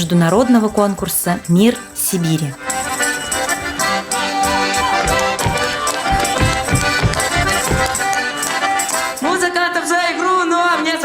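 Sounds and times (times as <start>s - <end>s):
accordion folk dance tune: 0.0s - 11.0s.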